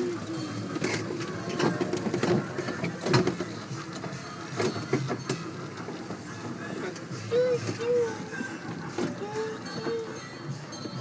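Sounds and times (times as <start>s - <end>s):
ride-on train rattling: 0.0s - 11.0s.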